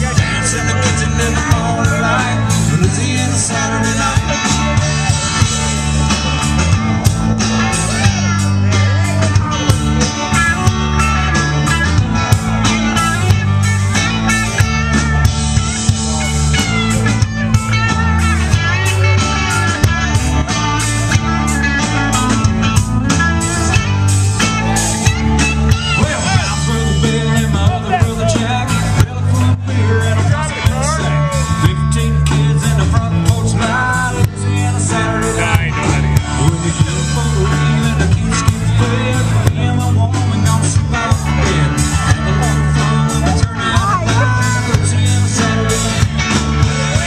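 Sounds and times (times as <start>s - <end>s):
upbeat country song: 0.0s - 47.0s.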